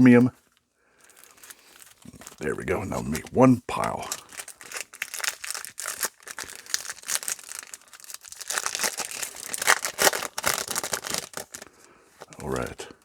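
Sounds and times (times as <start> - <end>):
foil wrapper crinkling and tearing: 0.0 - 12.9.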